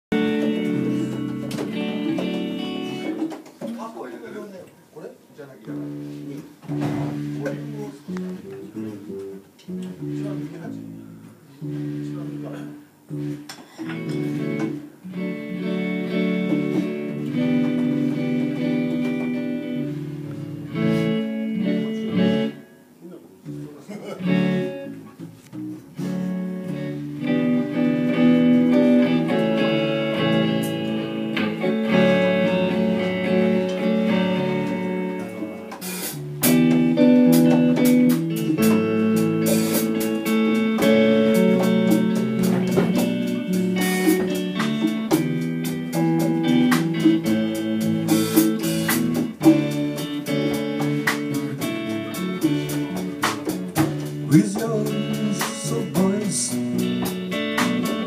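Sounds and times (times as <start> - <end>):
guitar band playing chords: 0.0 - 4.8, 5.6 - 58.0.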